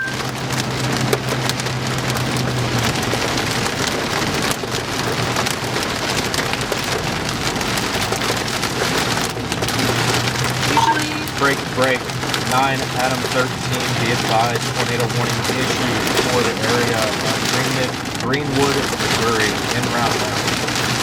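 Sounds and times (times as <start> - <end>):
heavy rain on vehicle: 0.0 - 21.0.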